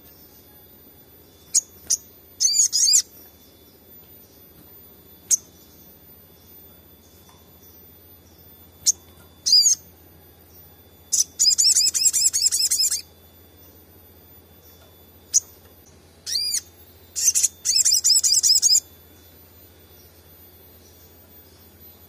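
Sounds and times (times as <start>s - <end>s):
sunbird singing: 0.0s - 22.0s.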